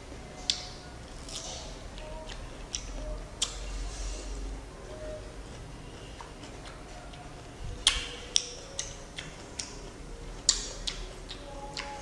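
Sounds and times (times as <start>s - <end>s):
chewing crunchy fruit: 0.4s - 12.0s.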